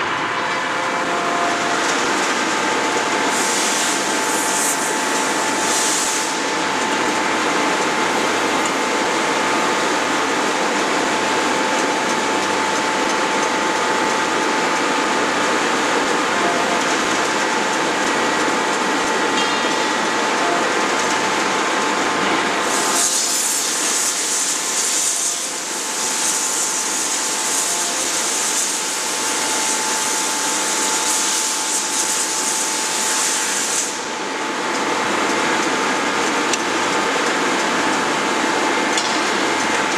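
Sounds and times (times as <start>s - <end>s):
hydraulic forging hammer running: 0.0s - 39.9s.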